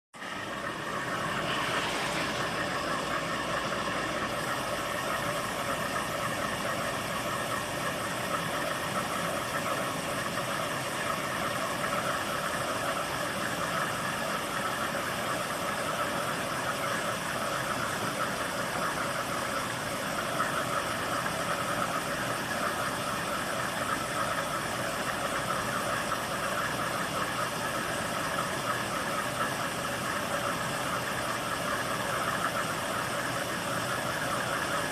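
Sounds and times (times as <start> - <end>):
washing machine running: 0.2 - 34.9.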